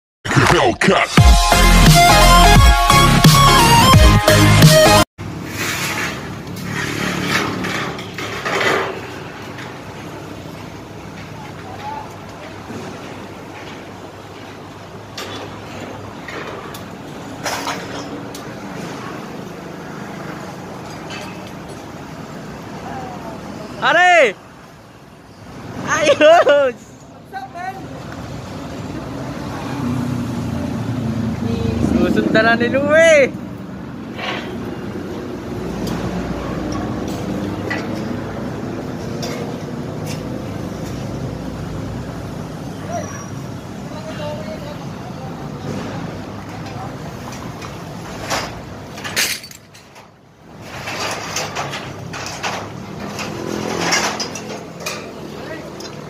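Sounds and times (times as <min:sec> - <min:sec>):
site and traffic rumble: 0:00.3 - 0:56.0.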